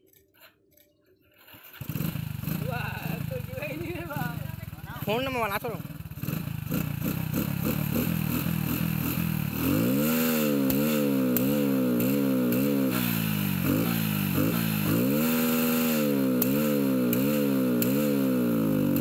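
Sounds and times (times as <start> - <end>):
motorcycle engine revving: 1.3 - 19.0.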